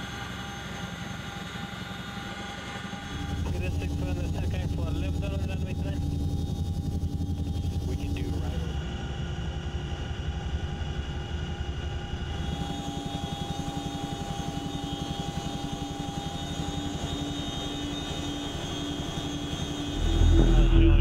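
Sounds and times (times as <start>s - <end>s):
helicopter rotor beating: 0.0s - 21.0s
turbine whine: 0.0s - 21.0s.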